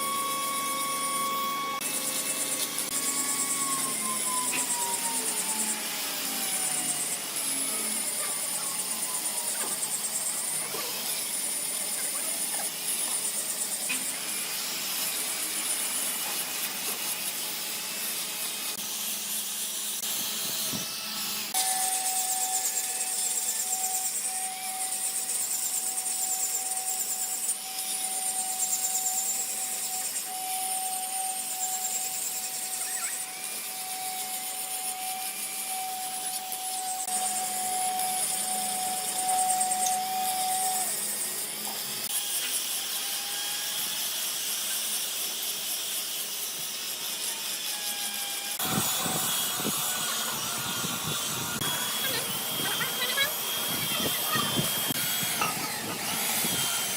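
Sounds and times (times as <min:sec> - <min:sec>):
power tool hiss: 0:00.0 - 0:56.9
power tool whine: 0:00.0 - 0:56.9.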